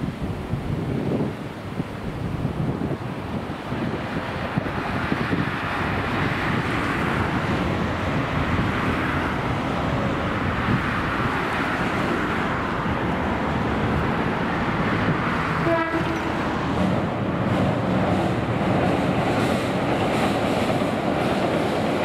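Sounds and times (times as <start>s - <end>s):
train rumbling past on rails: 0.0s - 22.0s.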